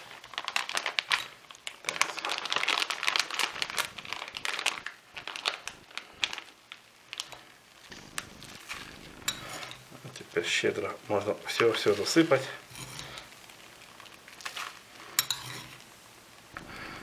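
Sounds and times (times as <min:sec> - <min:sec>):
plastic bag crinkling: 0:00.0 - 0:15.9.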